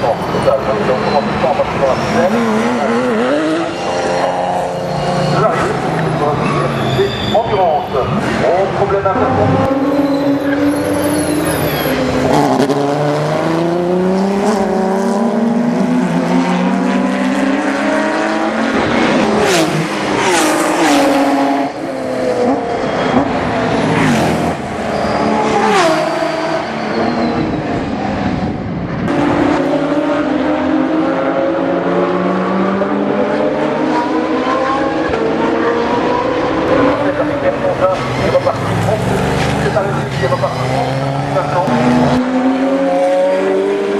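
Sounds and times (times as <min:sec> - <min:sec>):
race car engines revving: 0:00.0 - 0:43.9.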